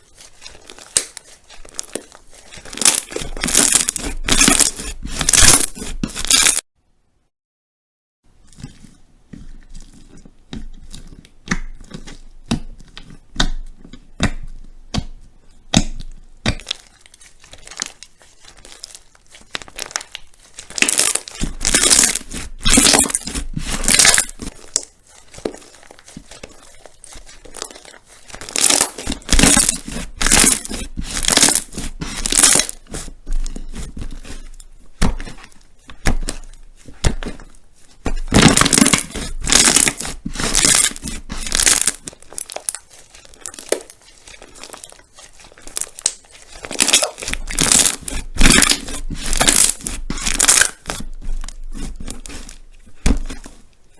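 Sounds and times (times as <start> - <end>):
crunchy slime crackling: 0.0 - 6.7, 8.4 - 53.9.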